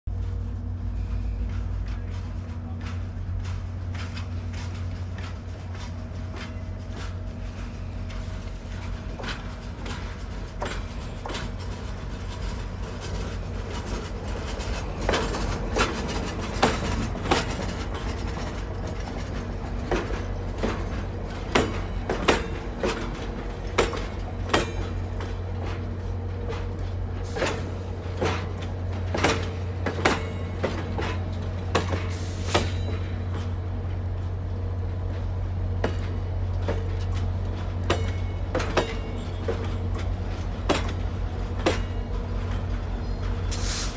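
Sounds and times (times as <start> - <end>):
diesel locomotive rumble: 0.1 - 43.9
train wheels clicking on rails: 0.1 - 43.9.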